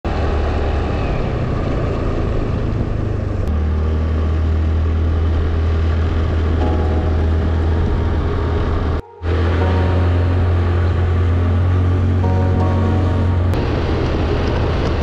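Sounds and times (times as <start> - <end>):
motor vehicle driving drone: 0.1 - 15.0.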